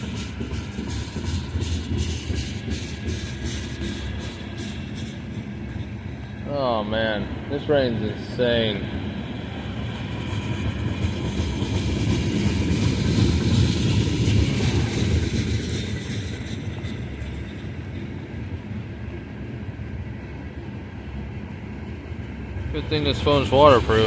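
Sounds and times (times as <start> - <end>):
train wheels clattering on rail: 0.0 - 24.0.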